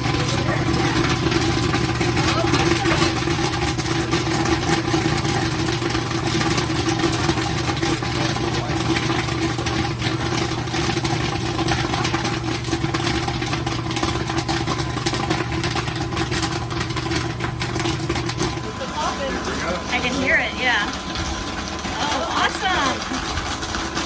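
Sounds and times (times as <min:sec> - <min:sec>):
popcorn machine motor hum: 0:00.0 - 0:24.0.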